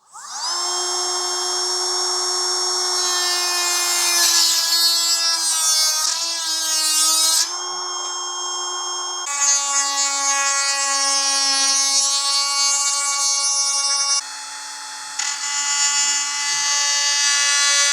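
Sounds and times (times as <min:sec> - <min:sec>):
rotary tool whining: 0:00.0 - 0:17.9.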